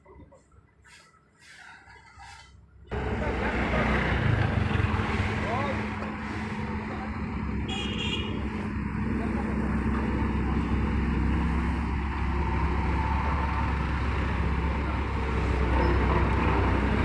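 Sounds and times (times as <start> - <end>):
heavy vehicle engine humming: 2.6 - 17.0.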